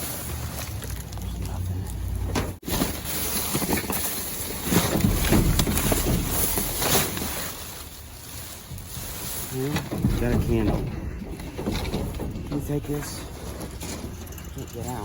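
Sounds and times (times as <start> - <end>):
items rustling and knocking: 0.0 - 15.0.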